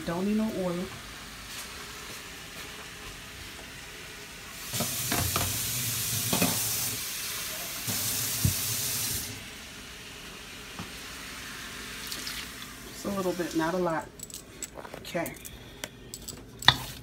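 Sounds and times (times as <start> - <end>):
vegetables sizzling in a wok: 0.0 - 13.9.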